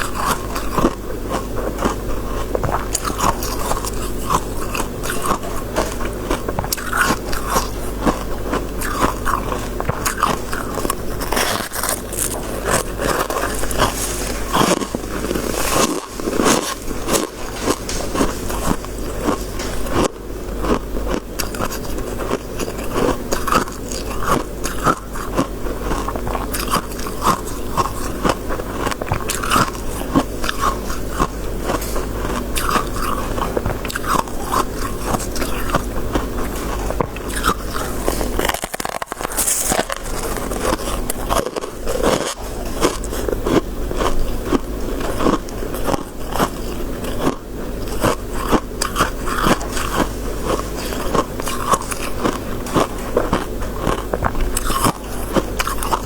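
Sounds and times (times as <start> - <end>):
chewing crunchy frost: 0.0 - 56.0.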